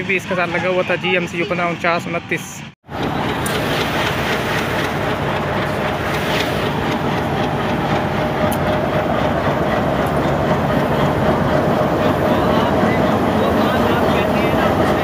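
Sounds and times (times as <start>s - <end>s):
wheels rumbling on rails: 2.8s - 15.0s
locomotive engine running: 2.9s - 15.0s.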